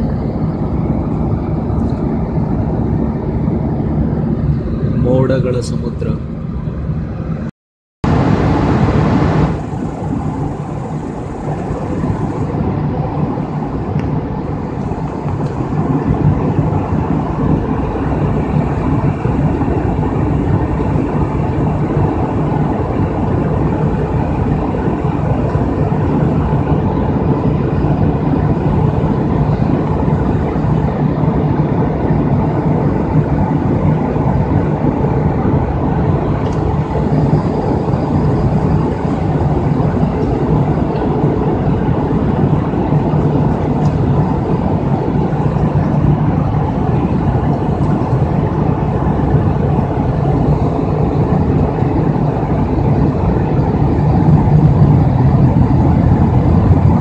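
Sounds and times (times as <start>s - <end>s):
airliner cabin engine drone: 0.0s - 57.0s
rushing air: 0.0s - 57.0s.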